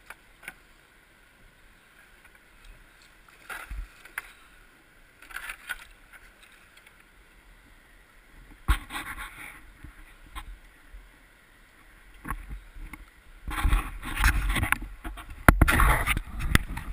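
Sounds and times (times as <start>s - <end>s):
kayak paddle splashing: 0.0s - 16.9s
river current wash: 0.0s - 16.9s.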